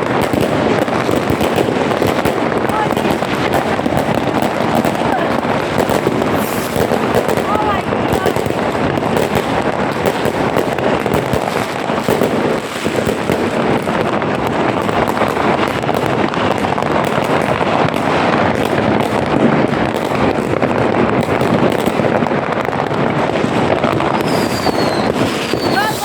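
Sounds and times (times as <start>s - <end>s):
fireworks and firecrackers banging: 0.0s - 26.0s.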